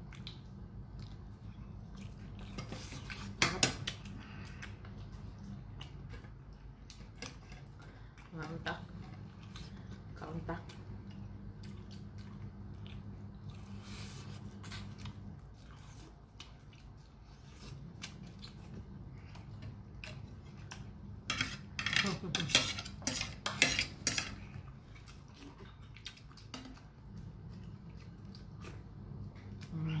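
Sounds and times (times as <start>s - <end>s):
person chewing food: 0.0s - 8.3s, 10.8s - 21.3s, 22.9s - 29.8s
low steady hum: 0.0s - 30.0s.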